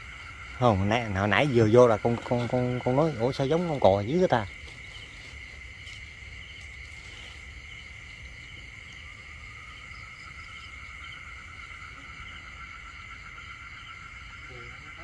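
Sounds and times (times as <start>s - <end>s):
insects and frogs trilling: 0.0s - 15.0s.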